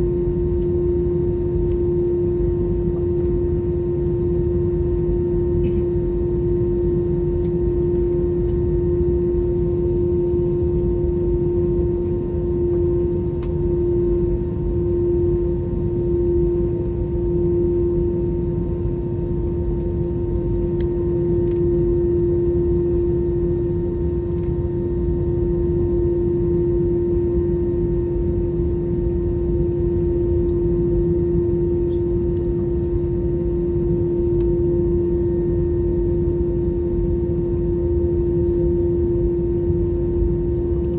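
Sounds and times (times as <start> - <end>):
jet engines idling in cabin: 0.0 - 40.9.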